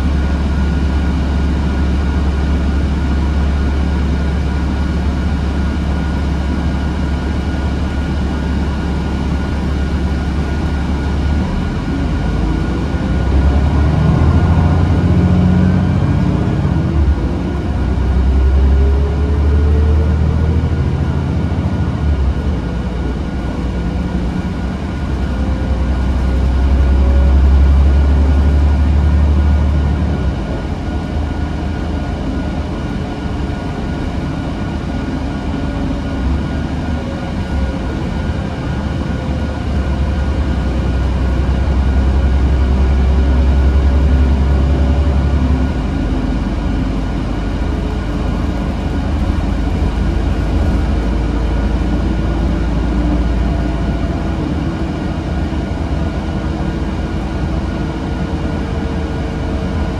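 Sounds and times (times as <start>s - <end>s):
bus engine and road rumble: 0.0s - 59.9s
rising engine whine: 0.0s - 59.9s.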